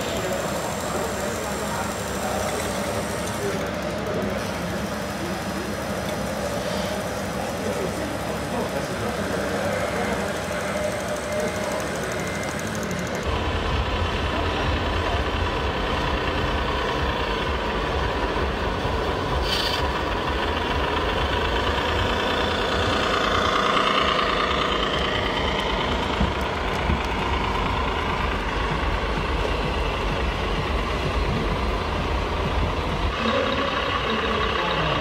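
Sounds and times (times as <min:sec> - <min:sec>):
model truck engine drone: 0:00.0 - 0:35.0
whine: 0:00.0 - 0:35.0.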